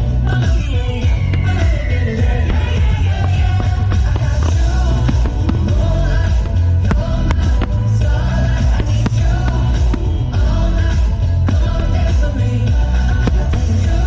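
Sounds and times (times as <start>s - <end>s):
pop-rock music with singing: 0.0s - 14.0s.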